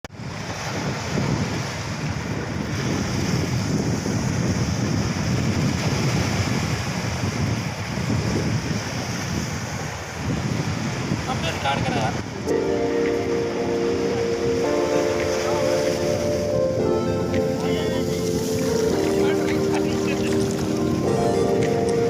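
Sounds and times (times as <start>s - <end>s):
wind buffeting microphone: 0.1s - 22.0s
wind rushing: 0.2s - 22.0s.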